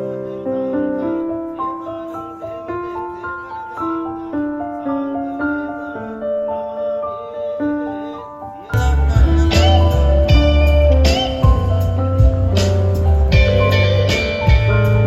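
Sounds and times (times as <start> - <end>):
soft slow piano music: 0.0 - 15.0.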